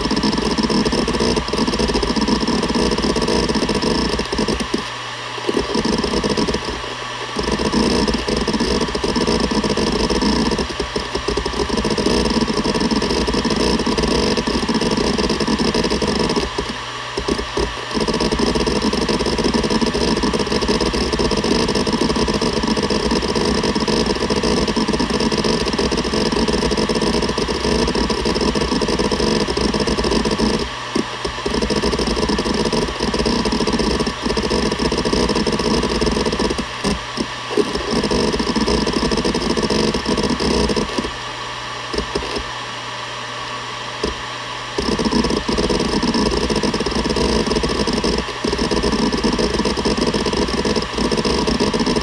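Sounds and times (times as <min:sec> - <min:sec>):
hard drive head seeking chatter: 0:00.0 - 0:43.1, 0:43.8 - 0:52.0
hard drive spindle hum: 0:00.0 - 0:52.0.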